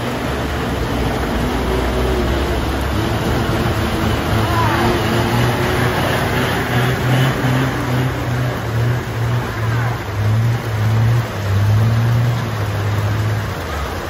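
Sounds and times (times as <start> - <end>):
rain hissing on road: 0.0 - 14.0
truck diesel engine droning: 0.0 - 14.0.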